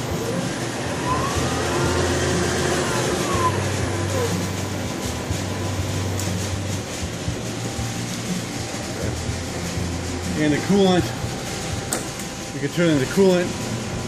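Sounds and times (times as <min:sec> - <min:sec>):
milling machine spindle whine: 0:00.0 - 0:14.0
steady low hum: 0:00.0 - 0:14.0.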